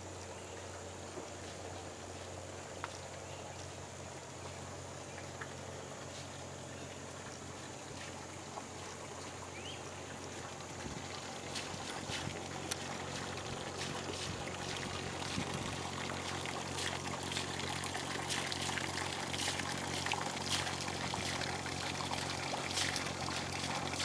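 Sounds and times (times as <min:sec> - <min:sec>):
steady low hum: 0:00.0 - 0:24.0
water trickling and dripping: 0:00.2 - 0:24.0.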